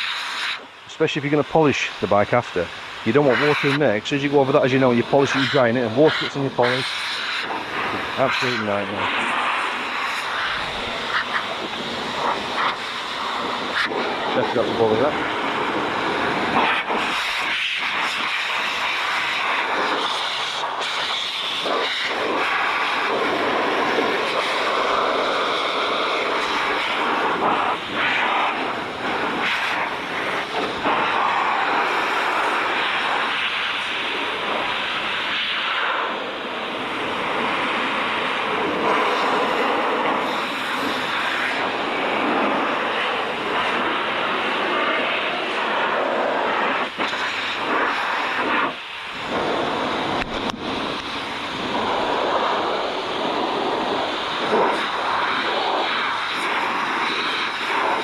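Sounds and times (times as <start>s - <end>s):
blower rushing air: 0.0s - 58.0s.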